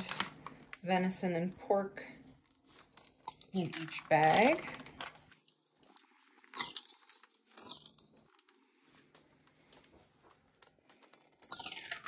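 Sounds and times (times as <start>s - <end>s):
plastic bag crinkling: 0.0s - 0.8s, 2.4s - 12.0s.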